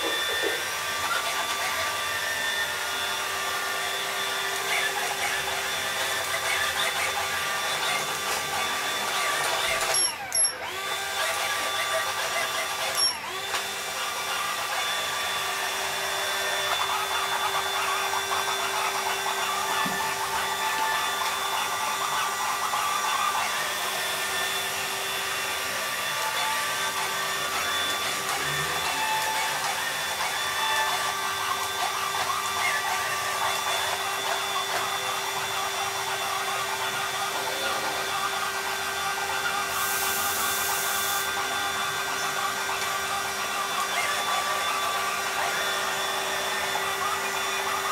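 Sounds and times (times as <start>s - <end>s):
robotic vacuum cleaner whirring: 0.0s - 47.9s.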